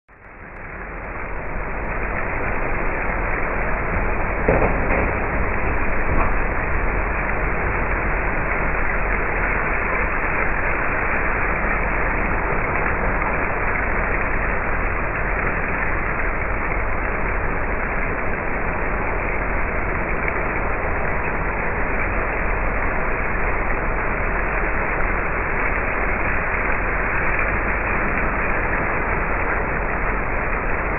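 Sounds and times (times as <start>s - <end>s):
low hum: 0.1s - 30.9s
cooling fan rushing: 0.2s - 30.9s.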